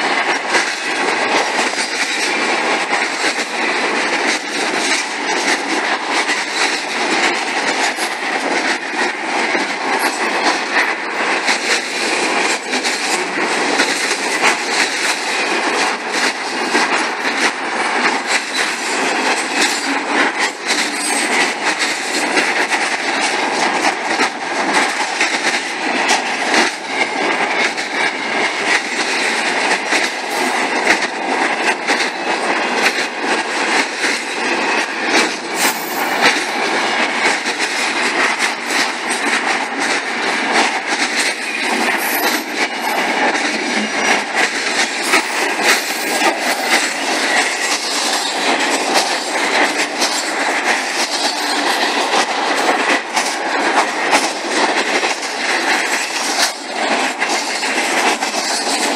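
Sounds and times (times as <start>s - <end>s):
rush of train wheels on rail: 0.0s - 58.9s
wheels clicking over rail joints: 0.0s - 58.9s.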